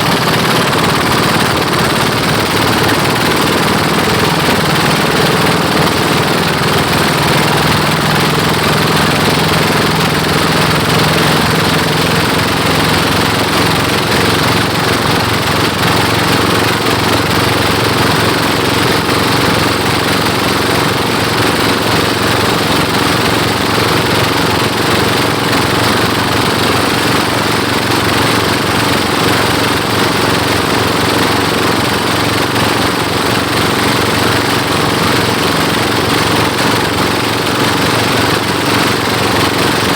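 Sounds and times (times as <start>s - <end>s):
boat engines running: 0.0s - 39.9s.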